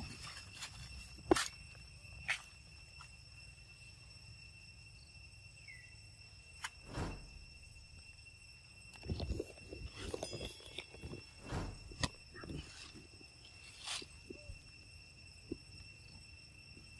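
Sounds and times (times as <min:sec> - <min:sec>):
insects droning: 0:00.0 - 0:16.9.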